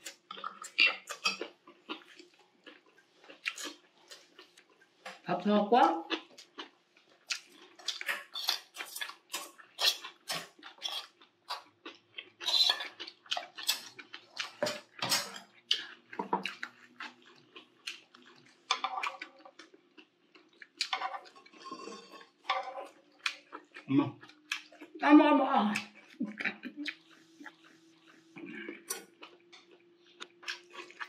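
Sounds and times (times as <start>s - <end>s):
chewing food with wet smacking: 0.0s - 5.3s, 6.0s - 25.0s, 25.7s - 31.0s.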